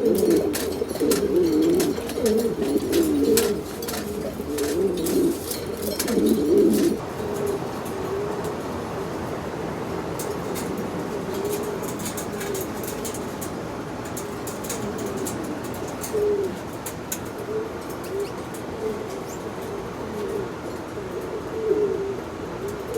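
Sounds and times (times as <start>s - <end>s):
pigeons cooing: 0.0s - 9.4s, 10.0s - 22.9s.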